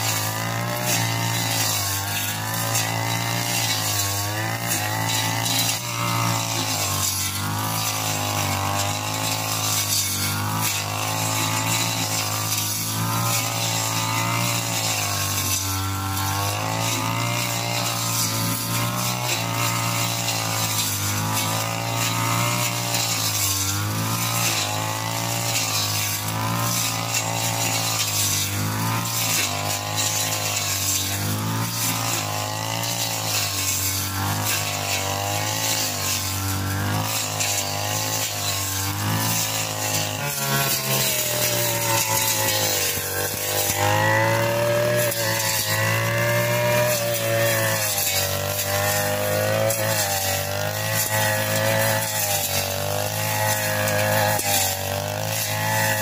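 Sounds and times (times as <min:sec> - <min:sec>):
brush cutter engine cutting grass: 0:00.0 - 0:56.0.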